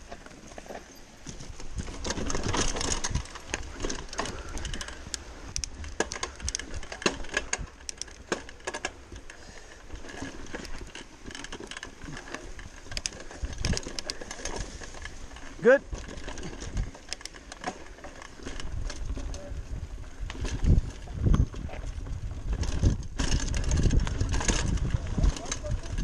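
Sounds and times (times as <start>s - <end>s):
bike chain clattering: 0.0s - 26.0s
bike tyres rolling over dirt: 0.0s - 26.0s.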